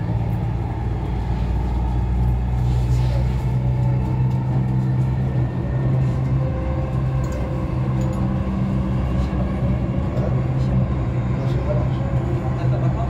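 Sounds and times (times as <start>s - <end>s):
train rumble with hum: 0.0s - 13.0s.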